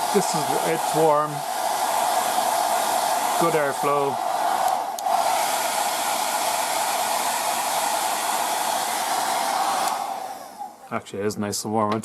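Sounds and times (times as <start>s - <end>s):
hairdryer blowing air: 0.0s - 10.9s.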